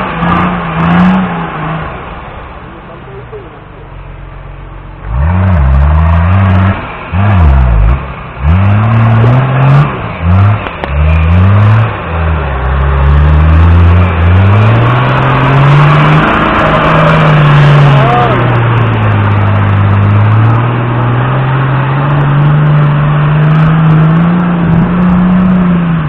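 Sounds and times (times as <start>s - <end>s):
engine revving hard: 0.0s - 2.0s, 5.0s - 26.0s
wheels churning through mud: 0.0s - 26.0s.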